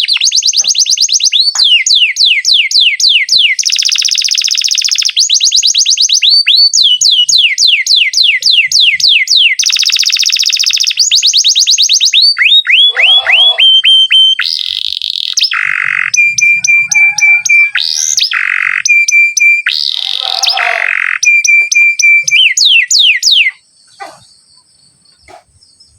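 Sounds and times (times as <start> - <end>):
canary singing: 0.0 - 25.9.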